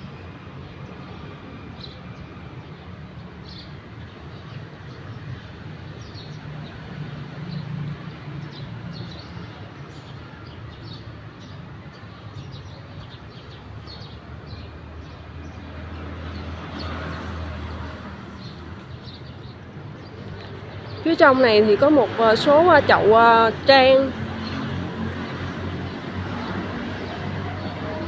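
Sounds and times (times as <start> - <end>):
road traffic engine drone: 0.0 - 28.0
small birds chirping: 1.8 - 27.9.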